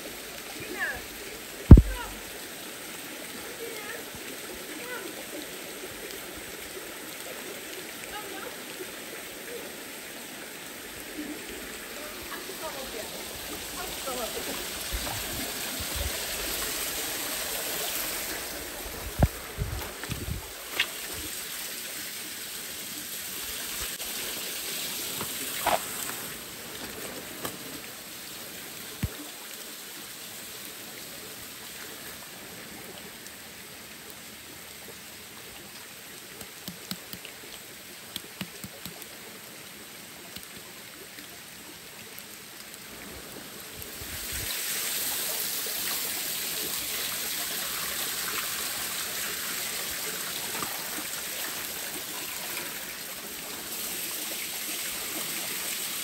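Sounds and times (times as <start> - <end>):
stream running over rock: 0.0 - 56.0.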